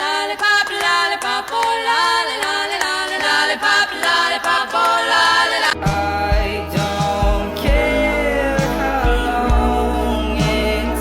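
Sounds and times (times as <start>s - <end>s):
unaccompanied chant-like singing: 0.0s - 11.0s.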